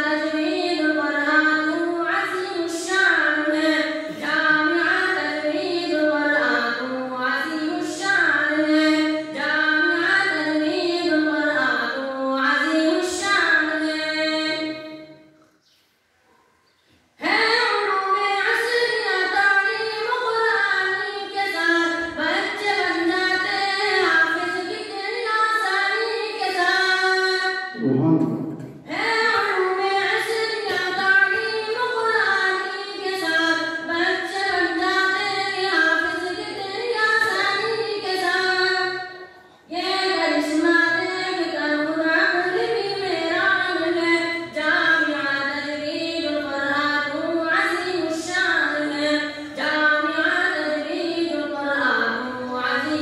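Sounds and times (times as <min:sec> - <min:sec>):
boy singing into a microphone: 0:00.0 - 0:15.3, 0:17.2 - 0:28.1, 0:28.8 - 0:53.0.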